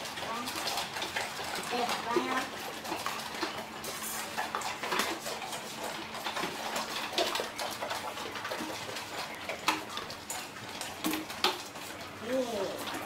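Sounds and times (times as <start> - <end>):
dogs crunching food: 0.0 - 13.0.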